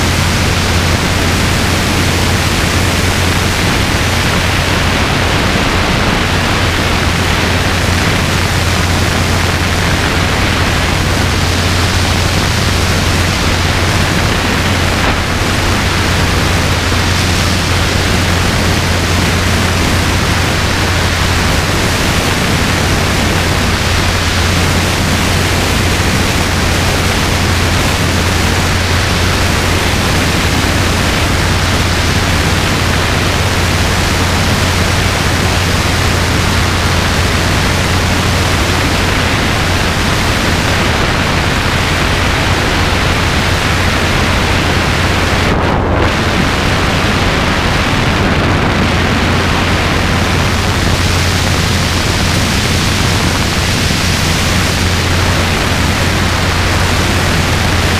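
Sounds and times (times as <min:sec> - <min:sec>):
helicopter low drone: 0:00.0 - 0:57.9
loud rushing noise: 0:00.0 - 0:57.9.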